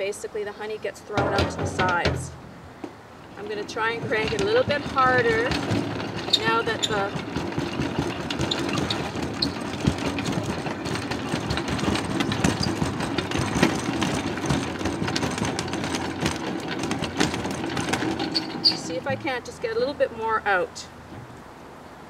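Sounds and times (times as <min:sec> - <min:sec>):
hand-cranked extractor rattling whir: 0:01.1 - 0:02.5, 0:03.2 - 0:20.5.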